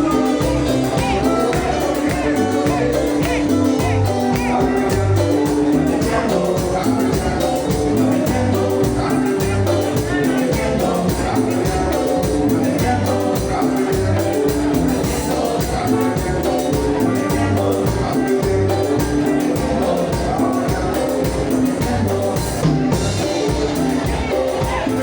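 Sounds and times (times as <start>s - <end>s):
live band dance music: 0.0s - 25.0s.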